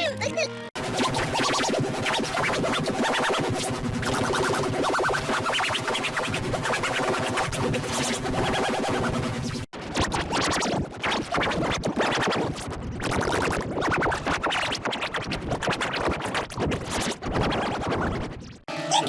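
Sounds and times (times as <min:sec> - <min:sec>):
distorted stuttering noise: 0:00.8 - 0:18.6.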